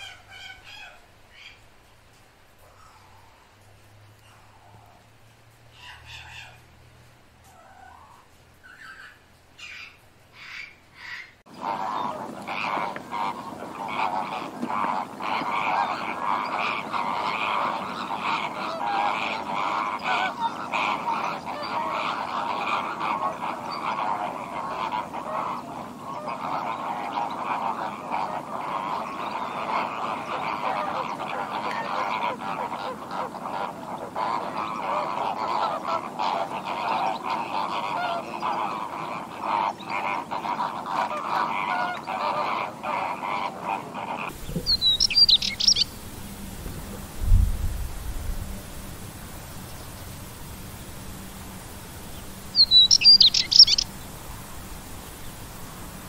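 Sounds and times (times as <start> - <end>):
flamingos honking: 0.0 - 1.6, 4.2 - 56.0
songbird chirping: 0.0 - 56.0.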